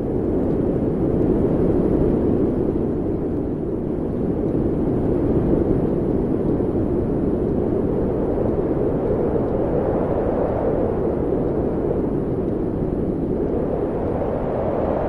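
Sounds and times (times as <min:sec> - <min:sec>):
steady low rumbling: 0:00.0 - 0:15.0.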